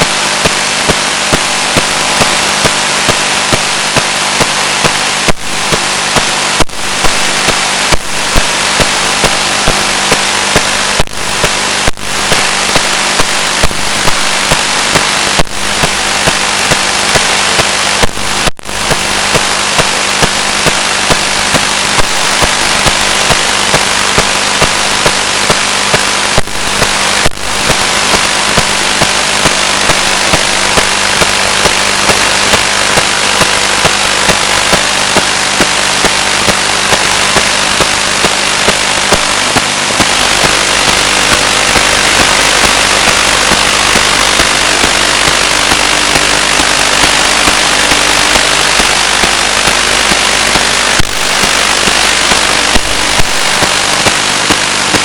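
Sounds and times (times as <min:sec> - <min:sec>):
sharp clicks: 0:00.0 - 0:55.0
static hiss: 0:00.0 - 0:55.0.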